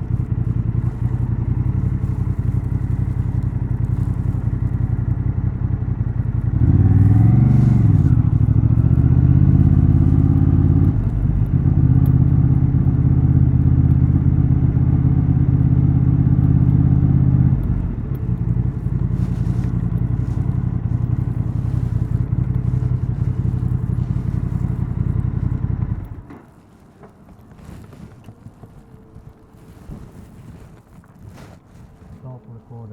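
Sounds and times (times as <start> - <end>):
motorcycle engine and exhaust: 0.0 - 32.9.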